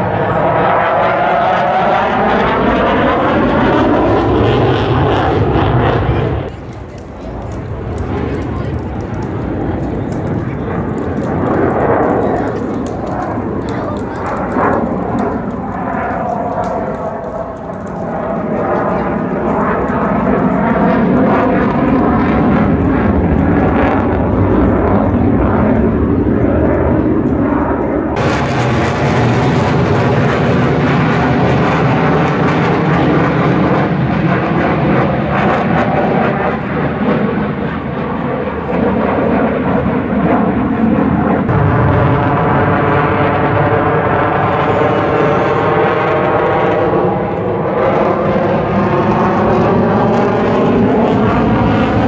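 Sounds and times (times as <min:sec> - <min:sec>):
military aircraft engine rumble: 0:00.0 - 0:52.0.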